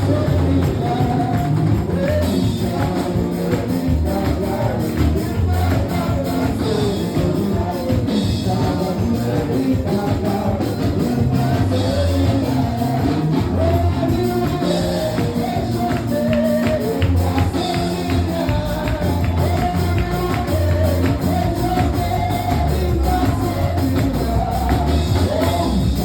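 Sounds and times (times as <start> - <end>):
bass and drum beat: 0.0 - 26.0
gospel band music: 0.0 - 26.0
people singing: 0.0 - 26.0.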